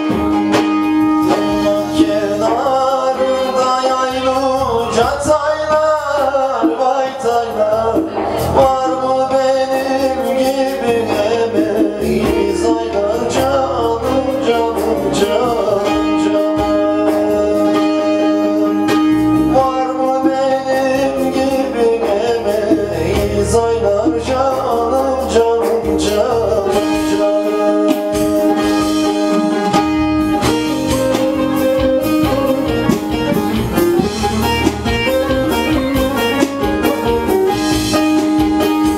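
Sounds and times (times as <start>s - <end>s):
plucked string accompaniment: 0.0s - 38.9s
man singing: 1.1s - 38.9s.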